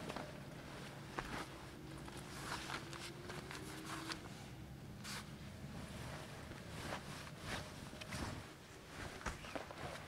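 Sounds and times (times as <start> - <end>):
nylon tent rustling: 0.0 - 4.3, 5.0 - 10.0.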